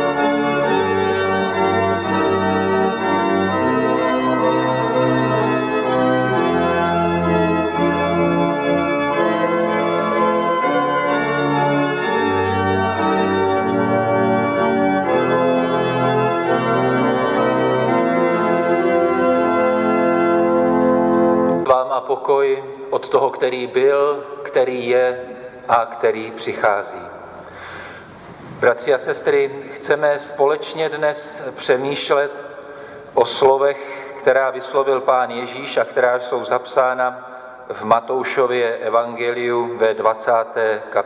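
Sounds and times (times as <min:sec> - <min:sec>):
church organ playing hymn: 0:00.0 - 0:41.0.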